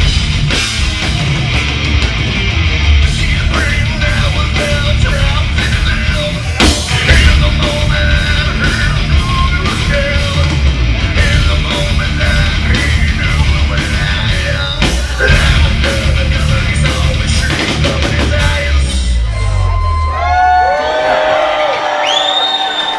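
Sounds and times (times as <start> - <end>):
hard rock band playing live: 0.0 - 20.0.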